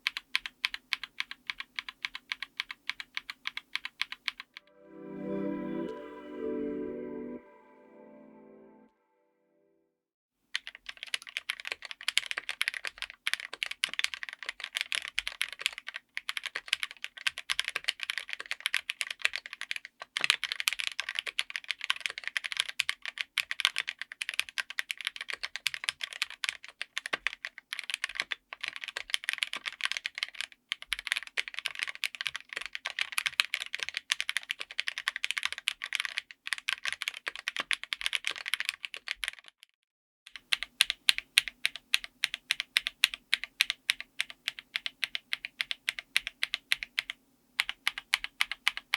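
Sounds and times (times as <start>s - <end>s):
typing on mechanical keyboard: 0.0s - 4.6s, 10.5s - 48.9s.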